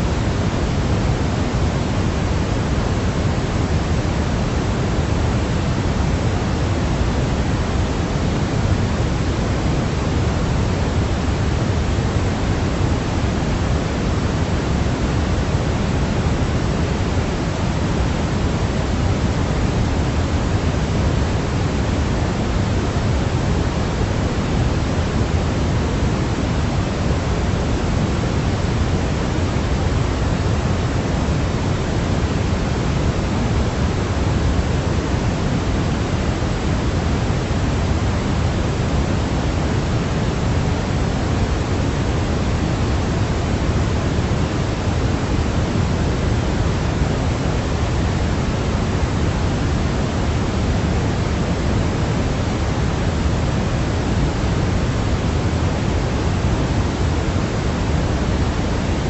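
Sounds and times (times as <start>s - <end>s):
deep white noise hiss: 0.0s - 59.0s.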